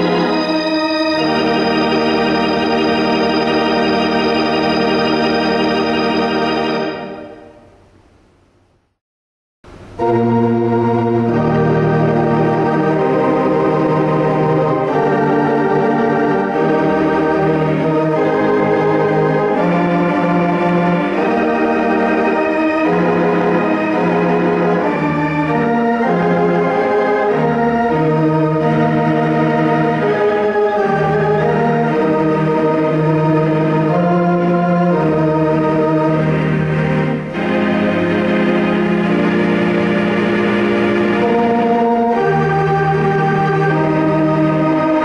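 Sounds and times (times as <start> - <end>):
organ playing held chords: 0.0 - 8.0, 9.7 - 45.0.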